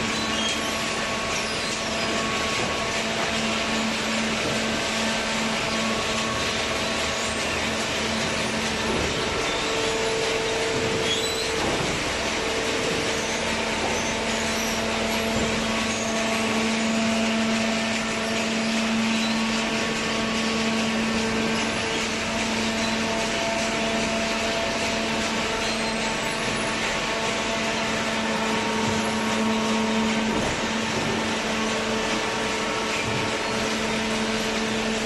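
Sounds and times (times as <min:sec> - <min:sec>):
baler motor and pump humming: 0:00.0 - 0:35.0.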